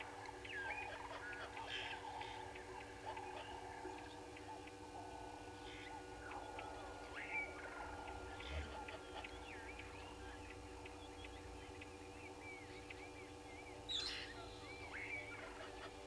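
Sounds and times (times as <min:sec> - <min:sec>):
birds calling: 0:00.0 - 0:16.0
steady low hum: 0:00.0 - 0:16.0.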